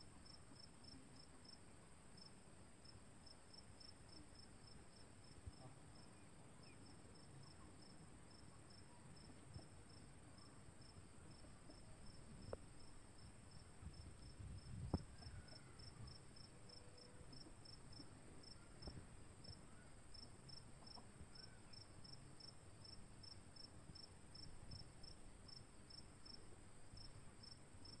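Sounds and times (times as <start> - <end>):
cricket chirping: 0.1 - 28.0.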